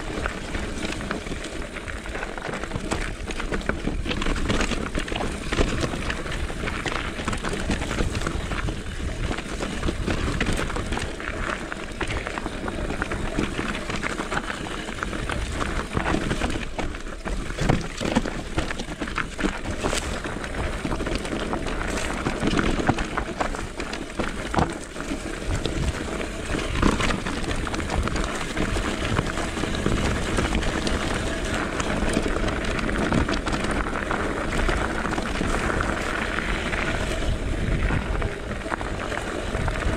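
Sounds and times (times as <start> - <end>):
bike clattering over rocks: 0.0 - 39.9
tyres crunching on gravel: 0.0 - 39.9.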